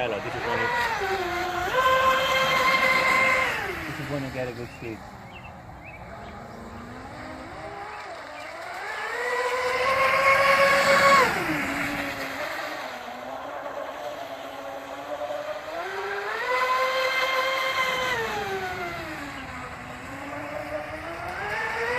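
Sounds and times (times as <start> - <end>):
electric motor whine: 0.0 - 21.9.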